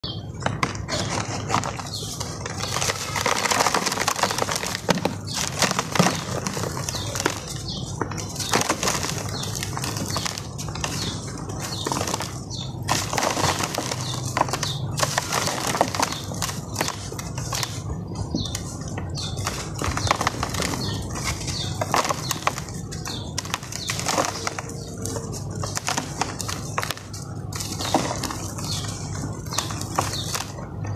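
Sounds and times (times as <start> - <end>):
blocks crunching and crackling: 0.1 - 30.9.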